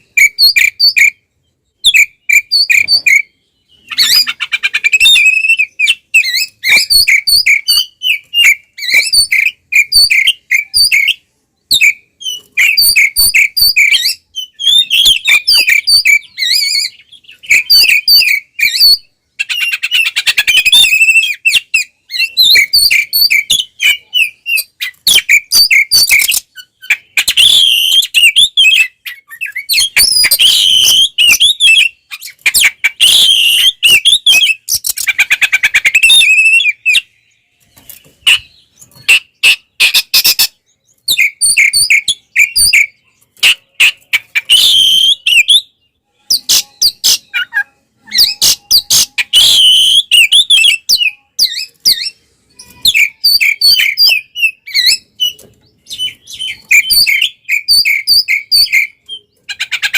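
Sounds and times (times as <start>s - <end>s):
bird whistling and chirping: 0.0s - 59.9s.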